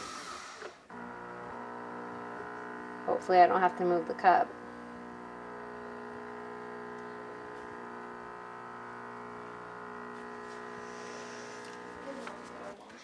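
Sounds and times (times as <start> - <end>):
coffee machine humming: 0.0 - 13.0.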